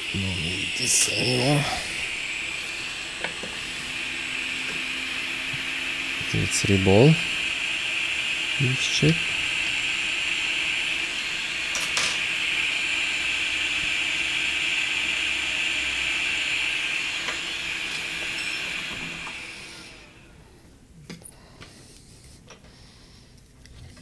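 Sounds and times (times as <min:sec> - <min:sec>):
hot air station hissing: 0:00.0 - 0:23.4.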